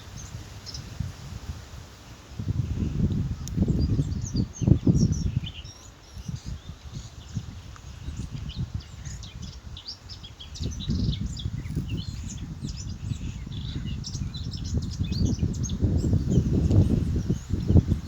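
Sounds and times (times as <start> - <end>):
small birds chirping: 0.0 - 1.1, 2.4 - 18.0.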